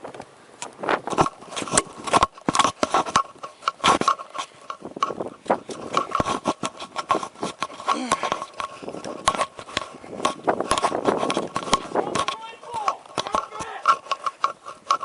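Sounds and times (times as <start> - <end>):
gear knocking and rubbing: 0.7 - 15.0.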